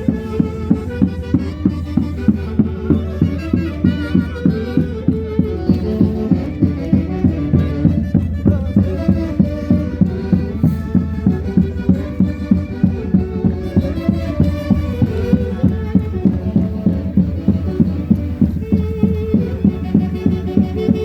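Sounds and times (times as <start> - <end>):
bowed-string melody: 0.0 - 21.0
steady drum beat: 0.0 - 21.0.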